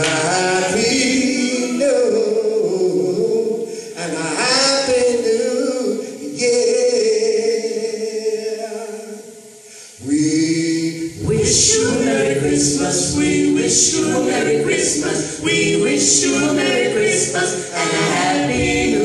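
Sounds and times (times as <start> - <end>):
vocal group singing held chords: 0.0 - 19.0.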